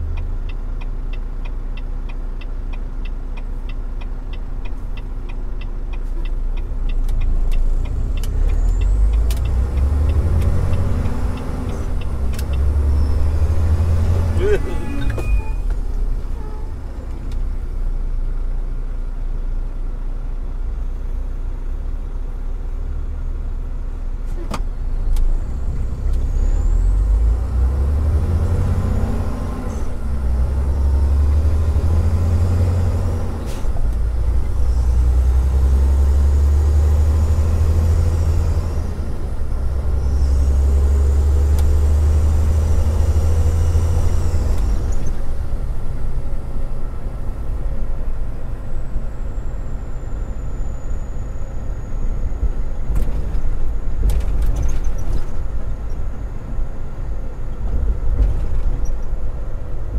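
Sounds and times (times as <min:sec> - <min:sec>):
truck diesel engine rumbling: 0:00.0 - 0:59.9.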